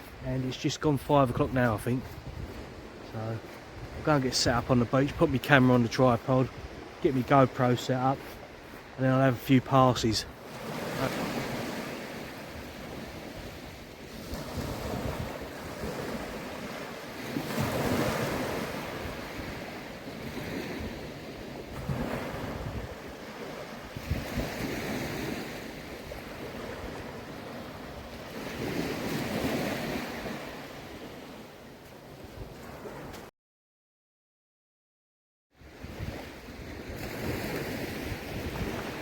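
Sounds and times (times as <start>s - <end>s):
wind gusting on microphone: 0.0s - 7.6s, 10.6s - 31.3s, 35.6s - 39.0s
small waves washing onto beach: 0.0s - 33.3s, 35.6s - 39.0s.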